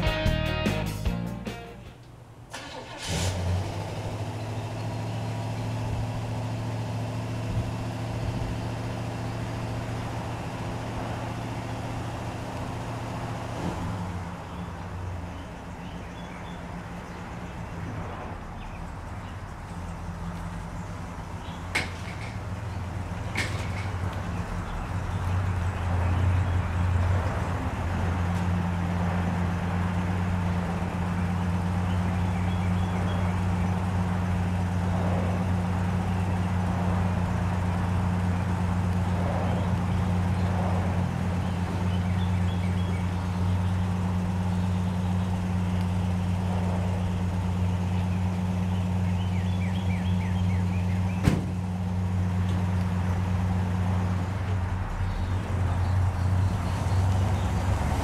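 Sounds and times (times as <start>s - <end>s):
truck engine idling: 0.0s - 58.0s
birds chirping: 4.3s - 58.0s.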